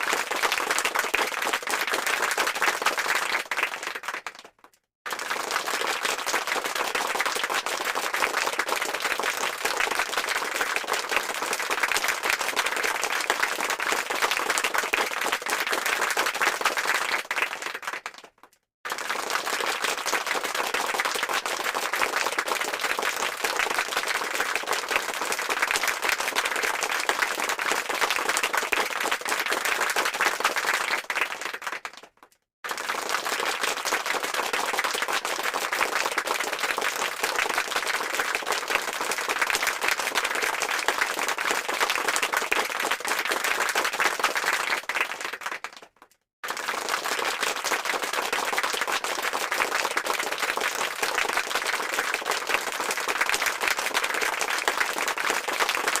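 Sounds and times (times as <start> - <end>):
crowd clapping: 0.0 - 56.0.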